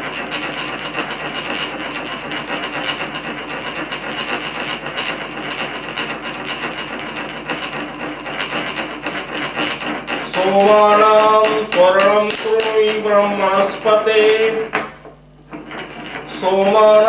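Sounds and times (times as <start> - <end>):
pestle grinding in a mortar: 0.0 - 17.0.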